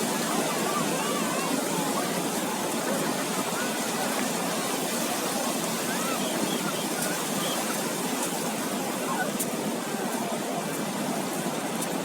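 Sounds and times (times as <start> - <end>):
surf washing on sand: 0.0 - 12.0.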